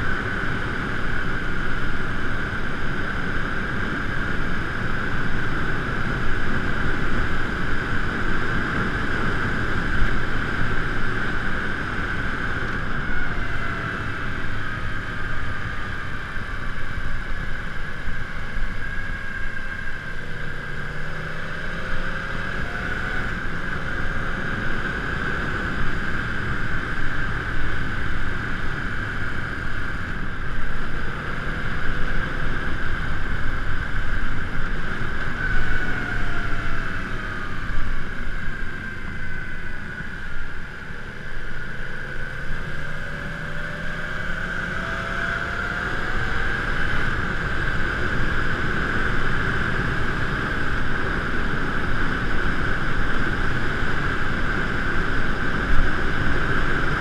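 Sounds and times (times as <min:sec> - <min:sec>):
road noise: 0:00.0 - 0:57.0
rushing wind: 0:00.0 - 0:57.0.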